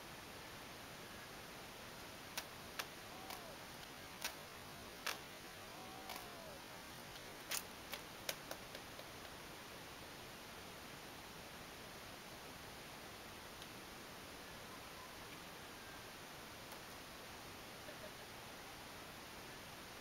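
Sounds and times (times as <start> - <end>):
faint hiss: 0.0 - 20.0.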